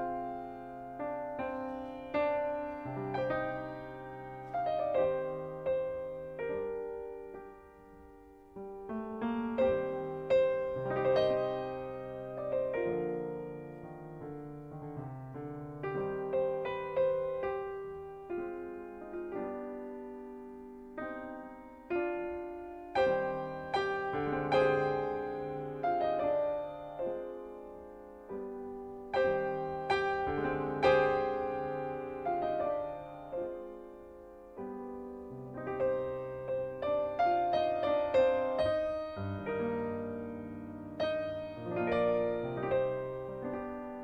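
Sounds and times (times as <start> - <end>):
slow solo piano: 0.0 - 44.0.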